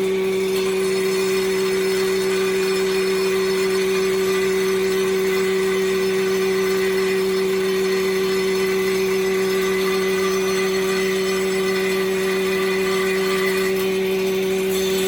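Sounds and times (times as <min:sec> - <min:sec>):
planer motor humming: 0:00.0 - 0:15.0.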